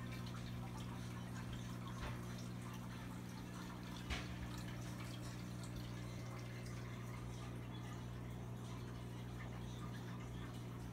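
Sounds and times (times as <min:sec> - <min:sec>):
filter motor hum: 0:00.0 - 0:10.9
water trickling and dripping: 0:00.0 - 0:10.9.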